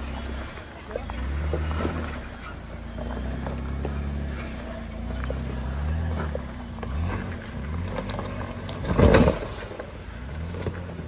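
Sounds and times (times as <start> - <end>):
engine working at low revs: 0.0 - 11.0.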